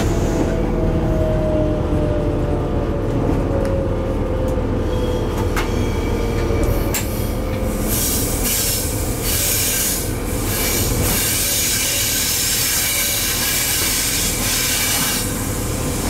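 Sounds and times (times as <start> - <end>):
locomotive rumble with whine: 0.0 - 16.0.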